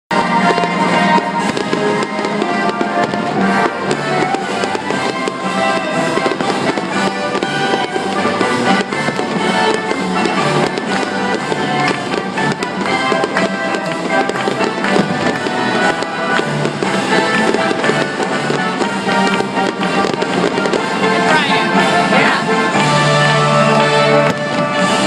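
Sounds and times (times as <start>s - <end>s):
fireworks crackling and popping: 0.1s - 25.0s
music playing: 0.1s - 25.0s.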